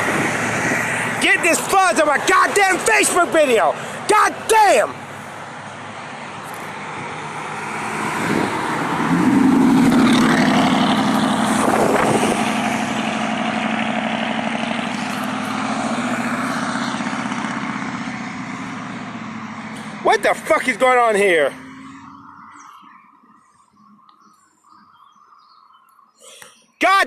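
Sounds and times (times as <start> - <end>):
vehicle passing by: 0.0 - 25.6.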